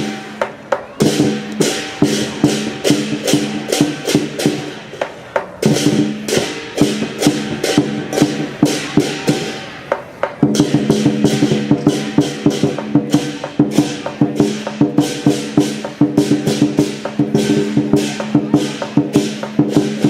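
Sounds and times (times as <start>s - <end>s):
clashing cymbals: 0.0s - 20.0s
drum beats: 0.0s - 20.0s.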